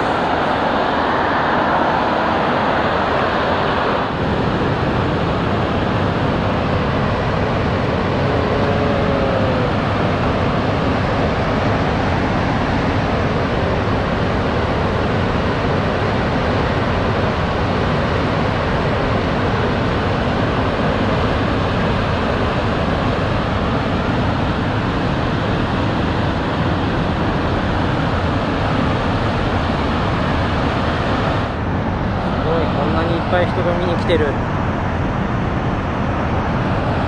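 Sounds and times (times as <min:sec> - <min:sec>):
water rushing from spillway: 0:00.0 - 0:37.0.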